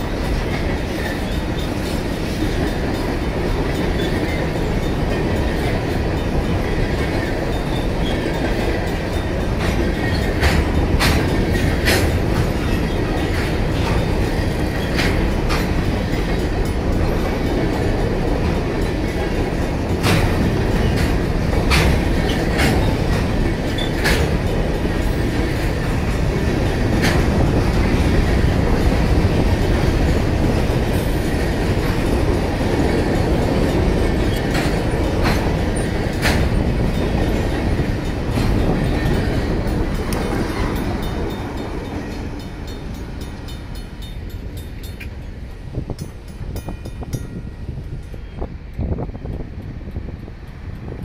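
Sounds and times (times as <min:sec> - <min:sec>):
crossing bells ringing: 0:00.0 - 0:21.8, 0:28.2 - 0:48.5
freight train rolling past: 0:00.0 - 0:51.0
wheels clacking over rail joints: 0:00.0 - 0:51.0.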